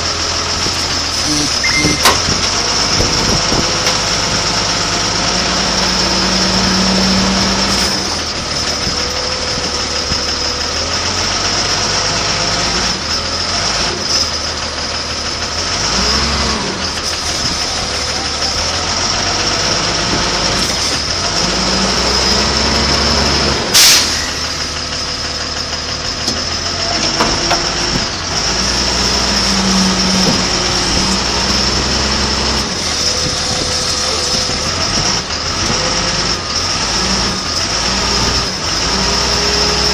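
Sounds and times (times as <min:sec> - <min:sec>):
large engine revving: 0:00.0 - 0:39.9.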